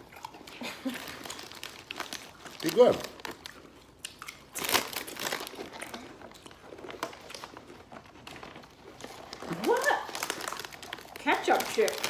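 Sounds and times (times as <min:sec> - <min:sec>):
plastic chip bag crinkling: 0:00.0 - 0:12.0.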